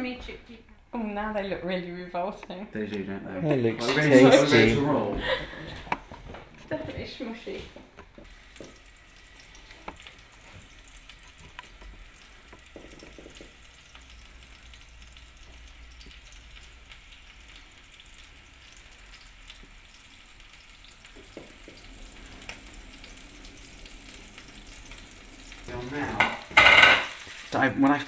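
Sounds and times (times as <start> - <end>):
food frying in oil: 3.4 - 28.0.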